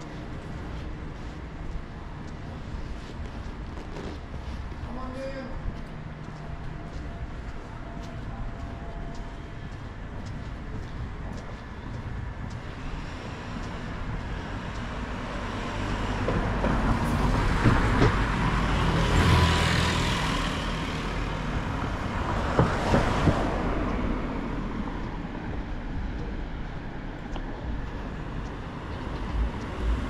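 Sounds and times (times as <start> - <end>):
street traffic: 0.0 - 30.0.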